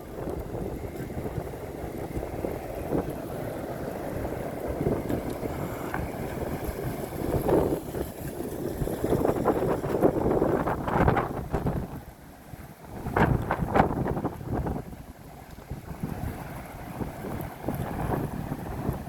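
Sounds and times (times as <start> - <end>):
gusty wind buffeting microphone: 0.0 - 19.0.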